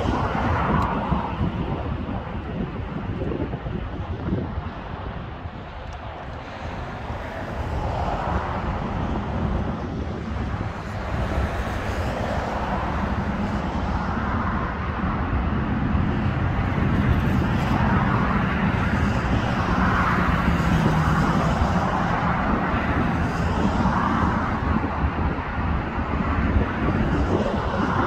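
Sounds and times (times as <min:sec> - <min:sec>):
road traffic rumble: 0:00.0 - 0:28.0
vehicles passing: 0:00.0 - 0:28.0.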